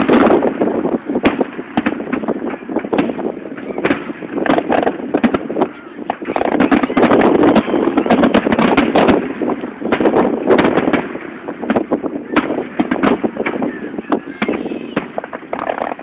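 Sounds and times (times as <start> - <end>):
fireworks cracking and crackling: 0.0 - 16.0
rumble of firework bursts: 0.0 - 16.0.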